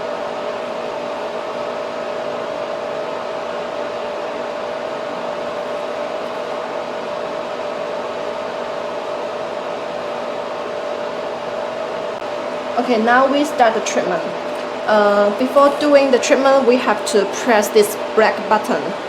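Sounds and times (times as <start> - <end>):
cooling fan whirring and humming: 0.0 - 19.0.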